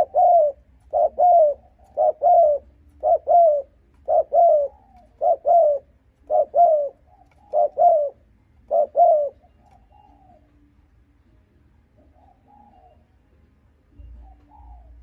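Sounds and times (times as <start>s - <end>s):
dove cooing: 0.0s - 10.9s, 11.9s - 13.3s, 13.9s - 15.0s.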